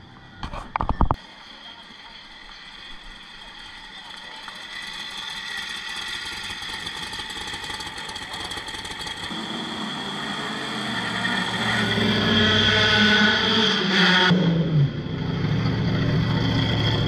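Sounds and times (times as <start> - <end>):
deeper steady engine note: 0.0 - 17.0
racing car engine at low revs: 1.3 - 17.0.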